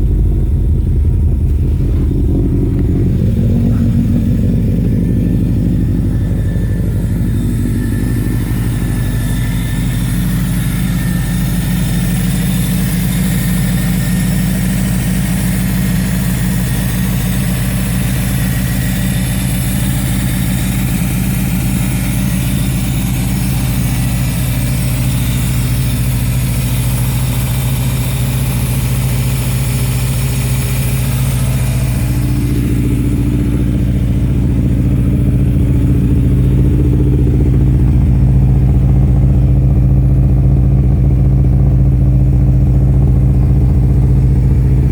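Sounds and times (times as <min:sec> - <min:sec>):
car engine running: 0:00.0 - 0:44.9.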